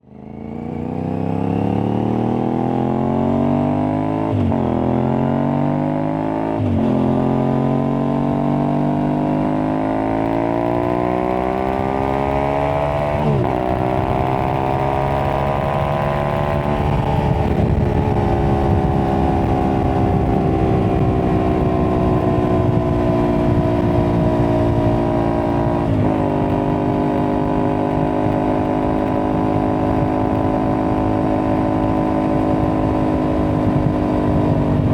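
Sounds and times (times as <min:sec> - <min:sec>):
motorcycle engine accelerating: 0:00.0 - 0:34.9
road noise: 0:00.0 - 0:34.9.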